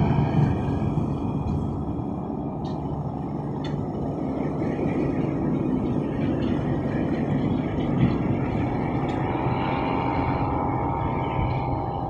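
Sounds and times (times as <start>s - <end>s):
distant engine drone: 0.0s - 12.0s
low rumble: 0.0s - 12.0s.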